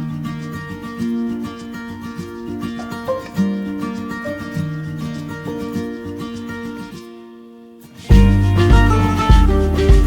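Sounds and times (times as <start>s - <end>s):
acoustic guitar melody: 0.0s - 10.0s.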